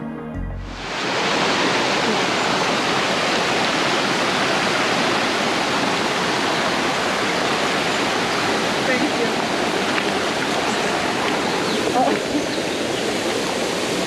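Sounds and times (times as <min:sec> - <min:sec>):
waterfall rushing: 0:00.7 - 0:14.0.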